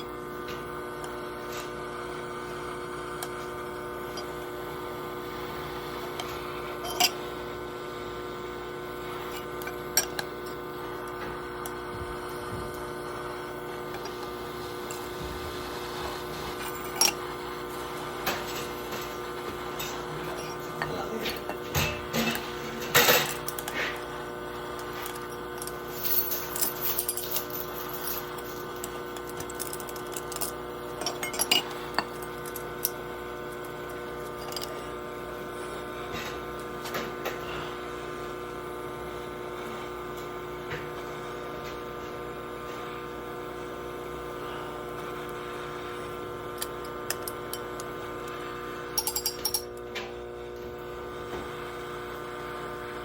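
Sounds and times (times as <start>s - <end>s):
steady multi-tone hum: 0.0s - 53.0s.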